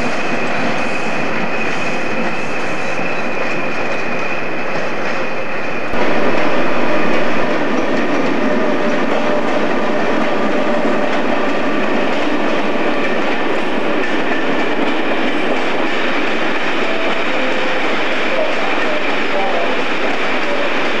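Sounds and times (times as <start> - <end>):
train rumble and rattle: 0.0 - 21.0.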